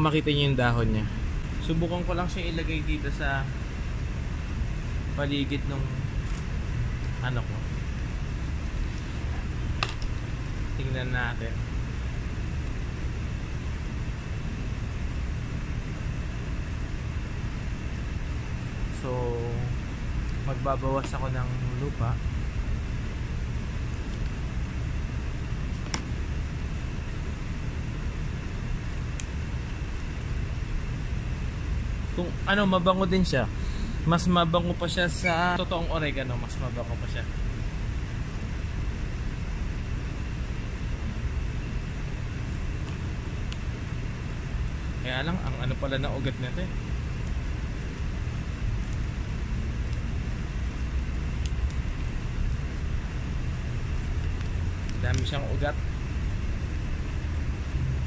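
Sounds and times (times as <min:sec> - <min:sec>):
low background rumble: 0:00.0 - 0:58.0.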